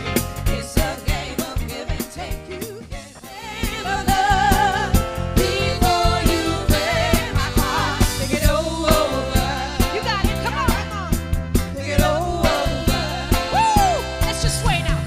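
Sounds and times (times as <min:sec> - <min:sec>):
soul band music: 0:00.0 - 0:15.0.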